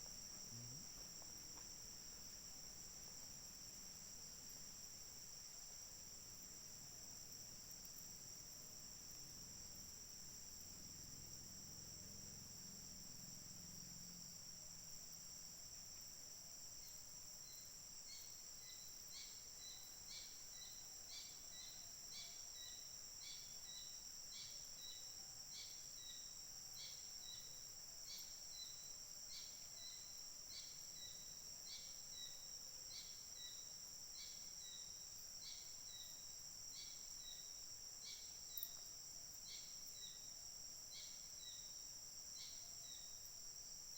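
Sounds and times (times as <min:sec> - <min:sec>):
insect drone: 0:00.0 - 0:43.9.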